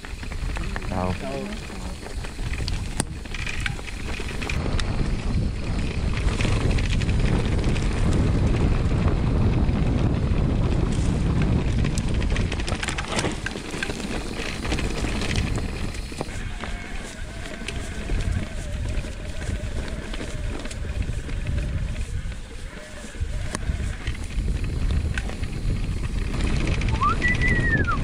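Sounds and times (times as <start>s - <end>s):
bike rattling: 0.0s - 28.0s
bike tyres rolling: 0.0s - 28.0s
wind on microphone: 0.0s - 28.0s.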